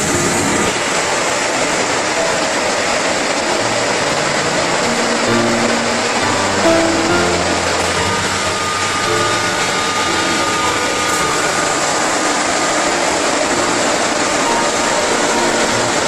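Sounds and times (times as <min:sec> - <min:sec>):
production line machinery: 0:00.0 - 0:16.0.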